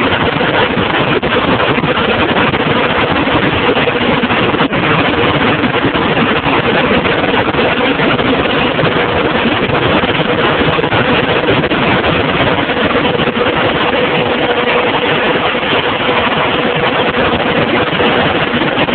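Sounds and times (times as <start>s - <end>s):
steady whine: 0.0s - 18.9s.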